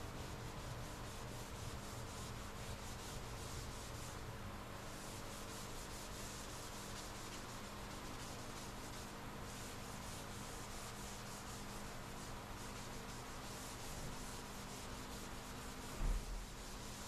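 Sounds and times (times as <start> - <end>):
sandpaper rubbing on body filler: 0.0 - 17.0.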